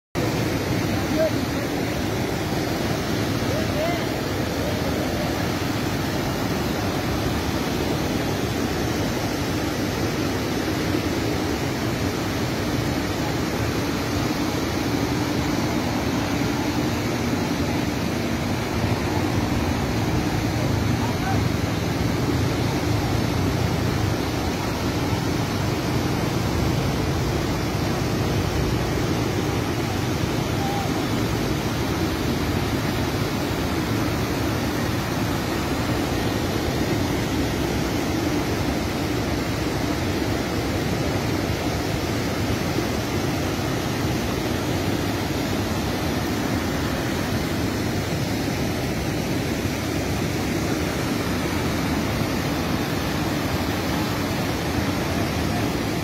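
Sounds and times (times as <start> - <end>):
floodwater rushing: 0.2 - 56.0.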